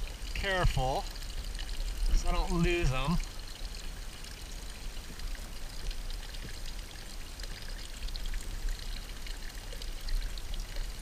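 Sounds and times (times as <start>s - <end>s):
water drips: 0.0s - 11.0s
water trickling and splashing: 0.0s - 11.0s.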